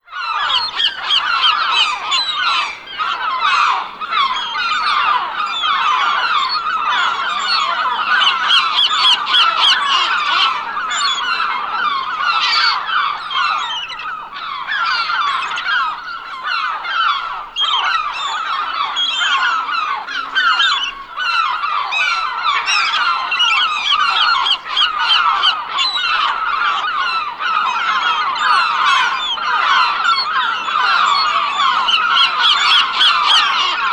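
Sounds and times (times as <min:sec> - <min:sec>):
gulls calling: 0:00.0 - 0:33.9.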